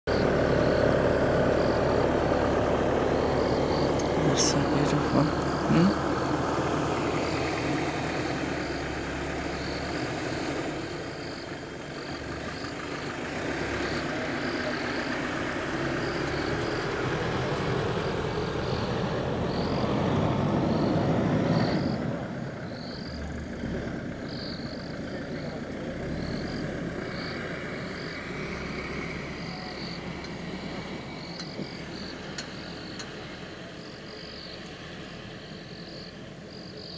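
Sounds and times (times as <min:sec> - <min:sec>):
frogs and insects calling: 0:00.1 - 0:36.9.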